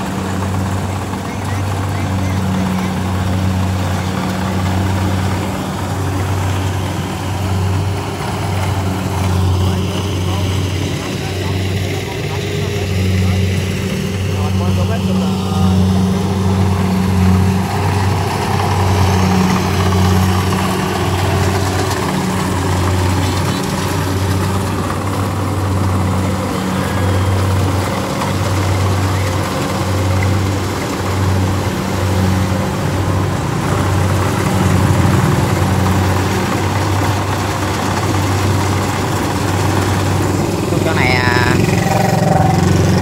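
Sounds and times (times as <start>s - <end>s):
clatter of cutting and threshing: 0.0s - 43.0s
combine harvester engine droning: 0.0s - 43.0s.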